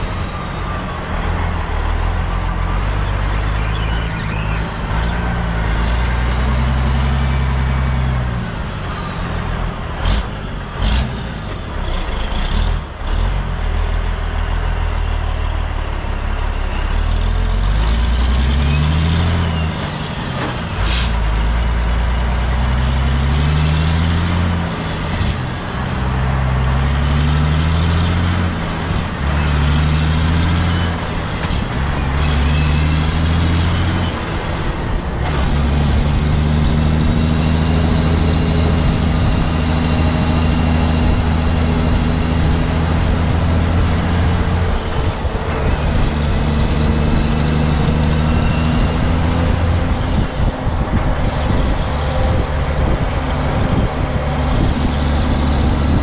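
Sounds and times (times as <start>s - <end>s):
diesel truck engine shifting gears: 0.0s - 56.0s.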